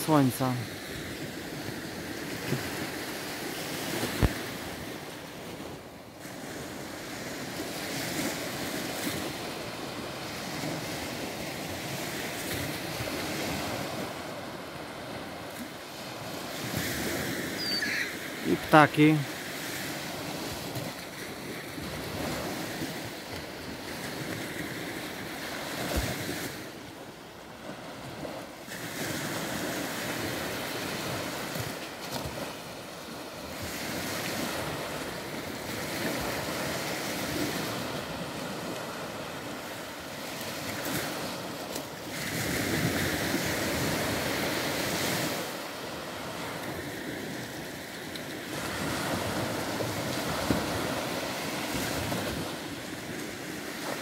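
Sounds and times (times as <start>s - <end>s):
small waves breaking on sand: 0.0s - 54.0s.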